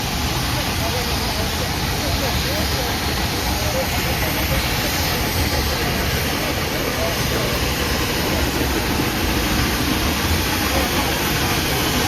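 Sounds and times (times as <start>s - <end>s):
moving train rumble and hiss: 0.0s - 12.0s.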